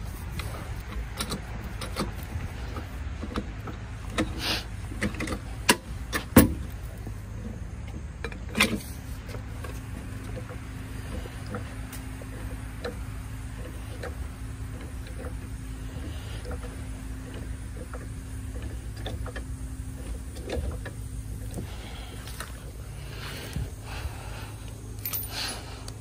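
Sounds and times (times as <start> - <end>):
steady low hum: 0.0 - 26.0
steady low rumble: 0.0 - 26.0.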